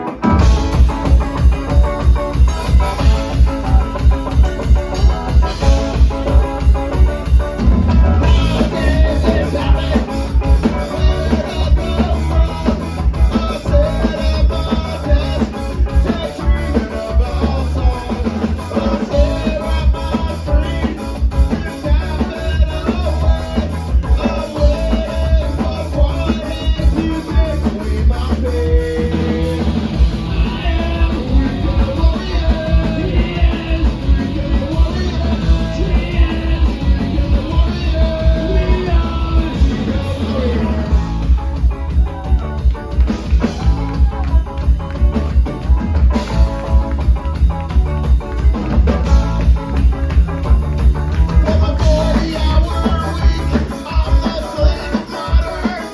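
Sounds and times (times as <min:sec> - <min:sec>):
person singing: 0:00.0 - 0:07.3, 0:08.2 - 0:47.4, 0:51.3 - 0:55.9
punk rock band playing live: 0:00.0 - 0:55.9.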